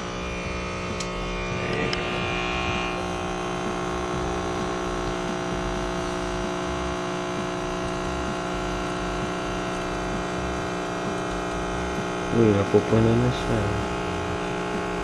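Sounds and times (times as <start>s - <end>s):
espresso machine pump humming: 0.0s - 15.0s.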